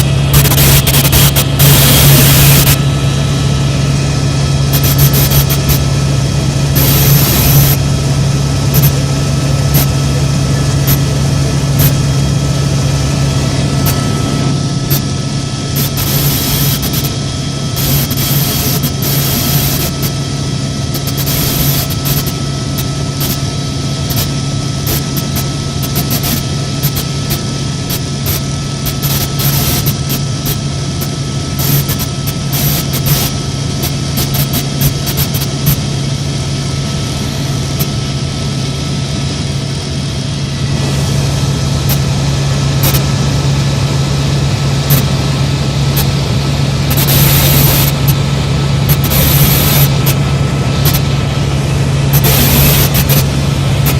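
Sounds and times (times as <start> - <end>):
helicopter turbine and rotors droning: 0.0 - 53.9.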